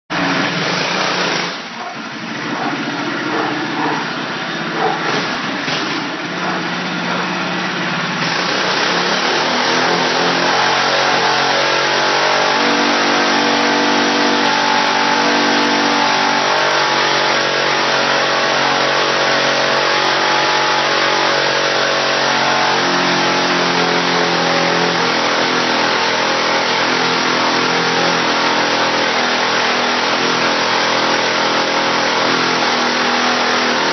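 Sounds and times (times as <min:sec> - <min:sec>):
mini bike engine revving: 0:00.1 - 0:33.9.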